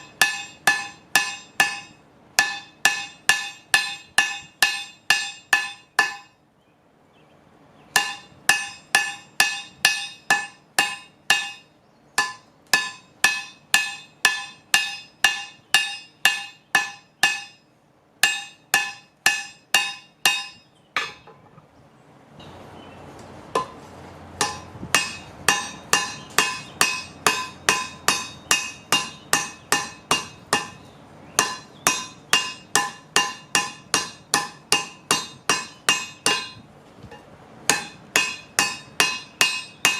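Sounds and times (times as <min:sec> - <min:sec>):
hammer ringing on anvil: 0:00.0 - 0:06.4, 0:08.0 - 0:21.4, 0:24.4 - 0:36.6, 0:37.7 - 0:39.9.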